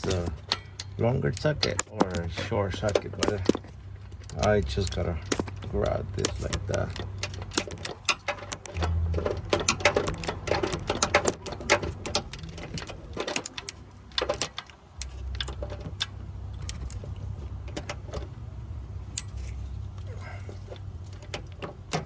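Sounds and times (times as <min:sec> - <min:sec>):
metal tools clinking: 0:00.0 - 0:18.3
low steady hum: 0:00.0 - 0:22.0.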